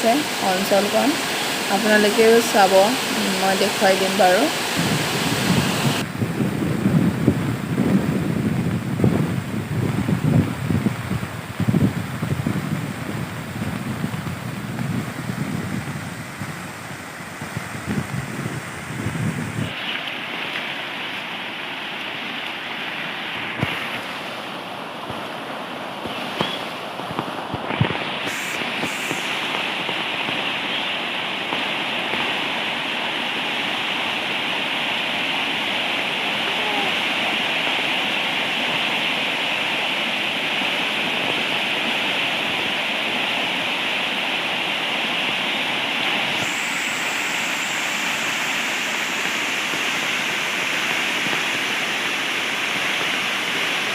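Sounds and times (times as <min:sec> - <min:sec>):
rushing water: 0:00.0 - 0:53.9.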